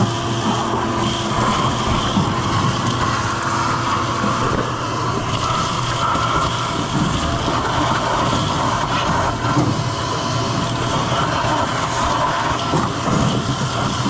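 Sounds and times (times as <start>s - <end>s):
vacuum running: 0.0s - 14.0s.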